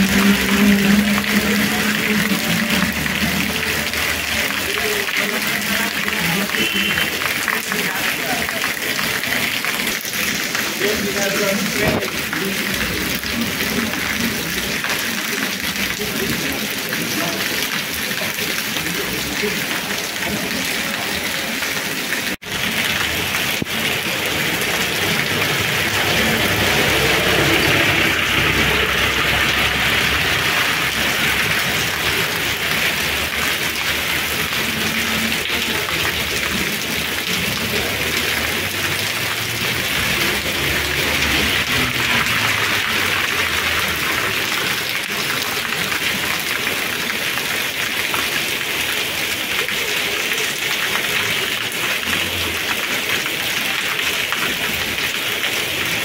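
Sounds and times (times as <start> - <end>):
rain on wet pavement: 0.0 - 56.0.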